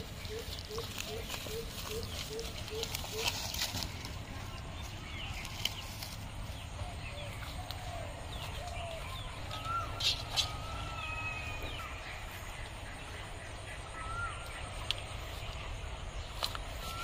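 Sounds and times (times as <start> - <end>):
birds calling with whistled notes: 0.0 - 17.0
steady low rumble: 0.0 - 17.0.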